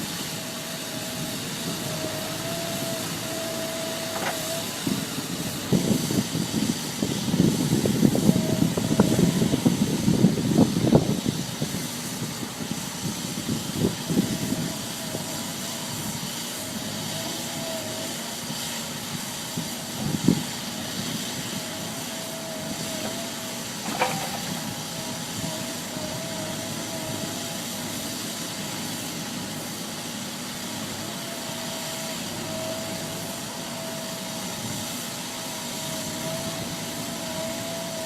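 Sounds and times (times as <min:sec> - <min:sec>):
heavy machinery whining: 0:00.0 - 0:38.0.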